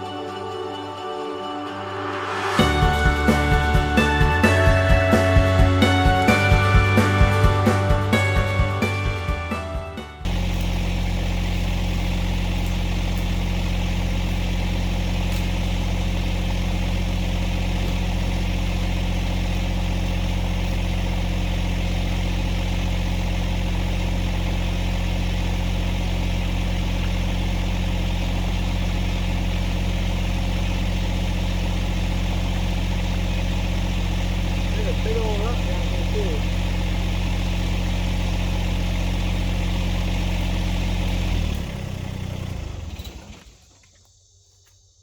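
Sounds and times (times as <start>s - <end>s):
tractor diesel engine running: 0.0s - 43.7s.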